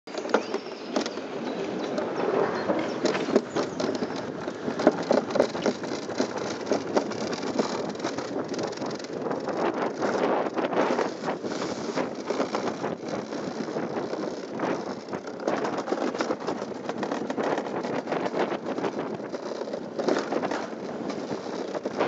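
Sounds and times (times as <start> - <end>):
sled rattling down metal track: 0.1 - 22.0.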